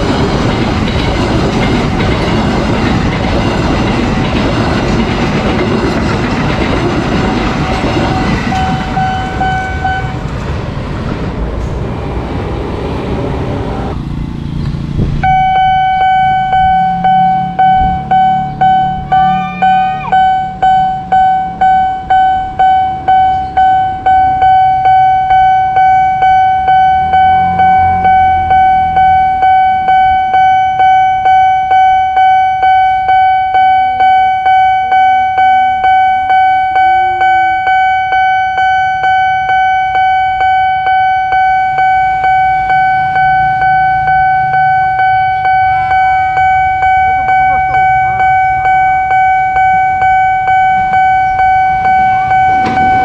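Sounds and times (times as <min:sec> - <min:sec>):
level crossing warning bell: 0:00.0 - 0:10.4, 0:15.2 - 0:53.0.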